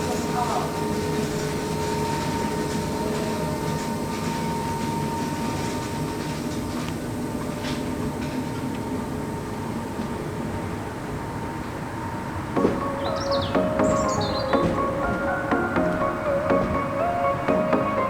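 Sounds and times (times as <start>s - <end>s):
electric train departing: 0.0s - 18.0s.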